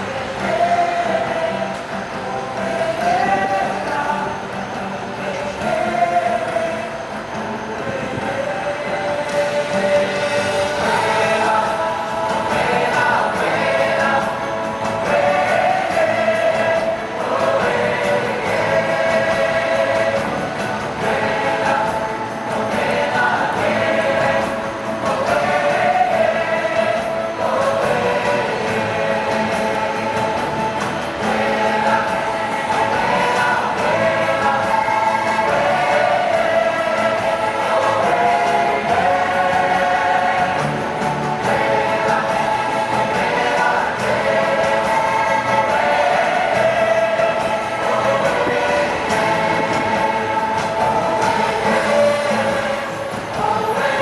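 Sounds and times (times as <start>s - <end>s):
choir singing long notes: 0.0s - 54.0s.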